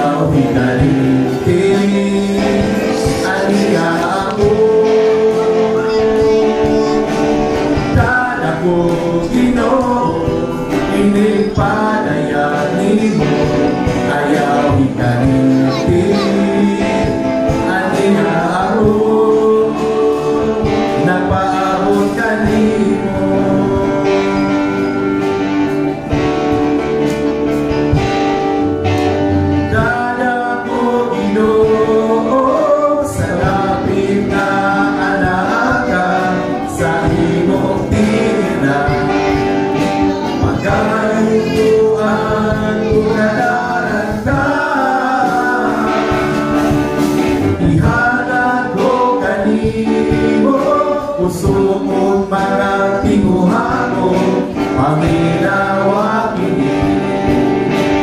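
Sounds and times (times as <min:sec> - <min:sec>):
group singing gospel song: 0:00.0 - 0:58.0
instrumental accompaniment: 0:00.0 - 0:58.0.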